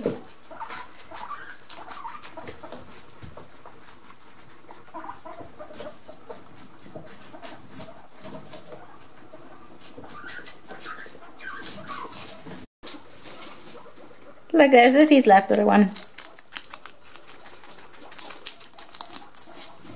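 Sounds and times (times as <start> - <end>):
guinea pig squeaks and chirps: 0.0 - 19.9
guinea pigs crunching lettuce: 0.0 - 19.9.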